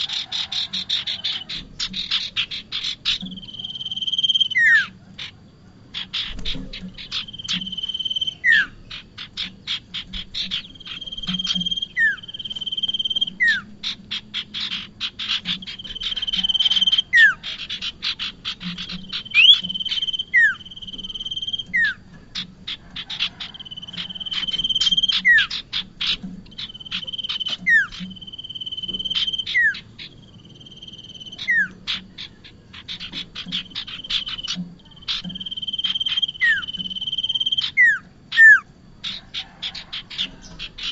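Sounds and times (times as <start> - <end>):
prinia bird calls: 0.0 - 40.9.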